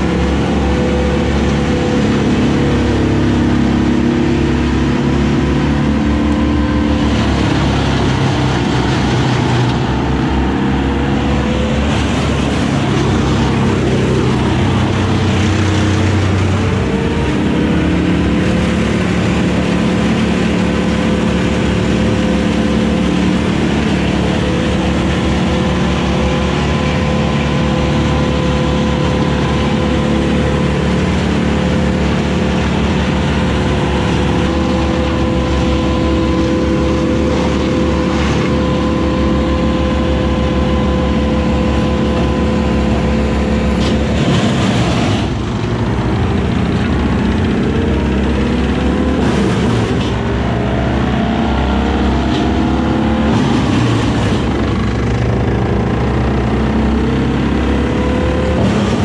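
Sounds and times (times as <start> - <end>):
excavator diesel engine running: 0.0 - 59.0
wood chipper engine: 0.0 - 59.0.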